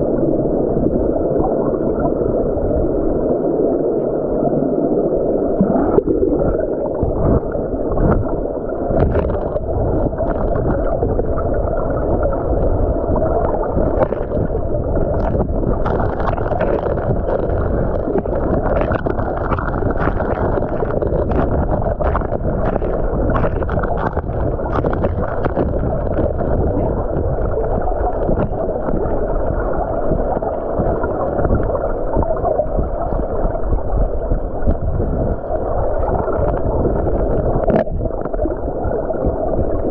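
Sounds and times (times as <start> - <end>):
underwater water rush: 0.0 - 39.9.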